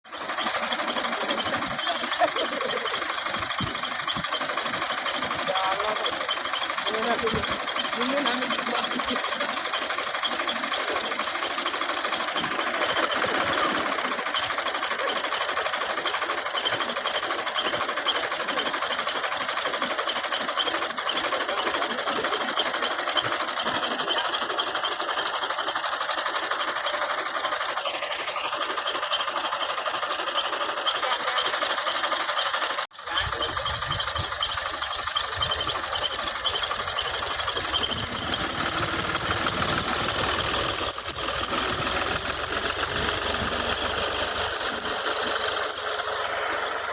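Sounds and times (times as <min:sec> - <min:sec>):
tractor engine clattering: 0:00.0 - 0:46.9.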